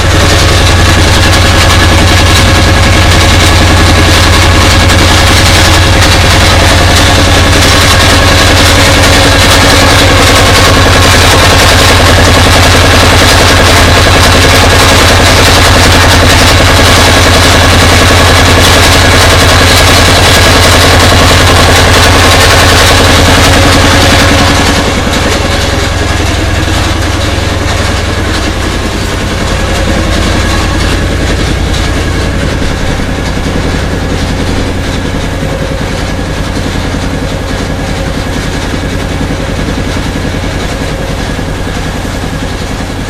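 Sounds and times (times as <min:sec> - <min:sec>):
boat engine drone: 0:00.0 - 0:43.0.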